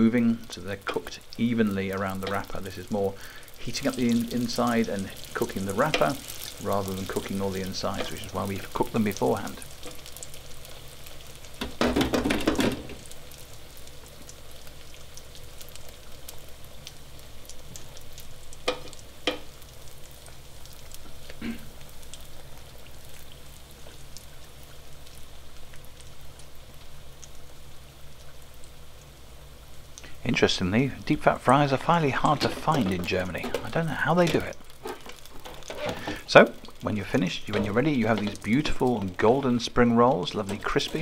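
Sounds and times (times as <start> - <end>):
deep-frying sizzle in hot oil: 0.0 - 41.0.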